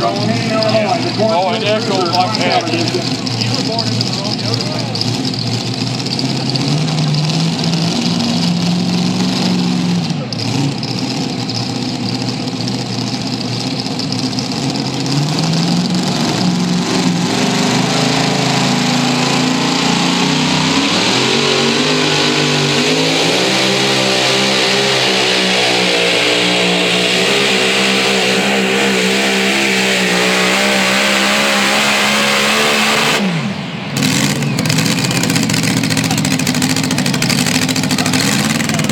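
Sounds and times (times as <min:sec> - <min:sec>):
engine at full throttle: 0:00.0 - 0:38.9.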